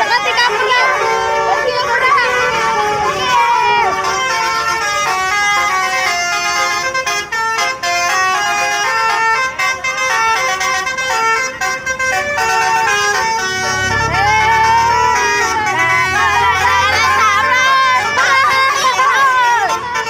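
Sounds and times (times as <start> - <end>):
bus horn playing a melody: 0.0 - 20.0.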